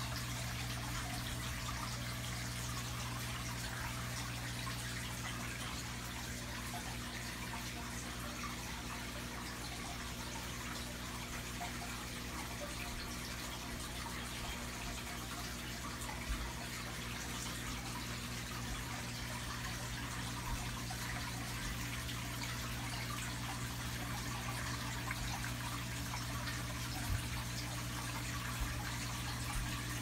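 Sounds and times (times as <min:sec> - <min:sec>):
pump humming: 0:00.0 - 0:30.0
water splashing and trickling: 0:00.0 - 0:30.0.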